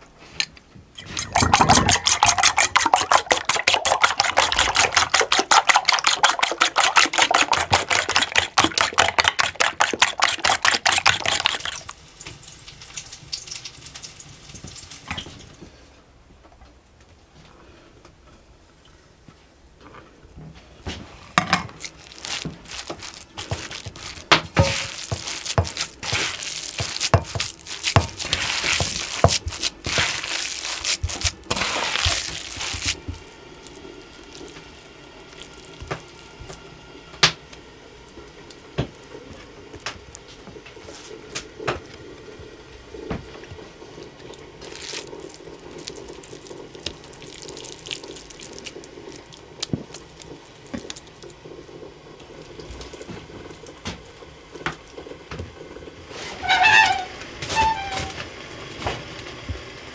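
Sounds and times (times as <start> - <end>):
water splashing in a sink: 1.0 - 15.4, 21.4 - 59.6.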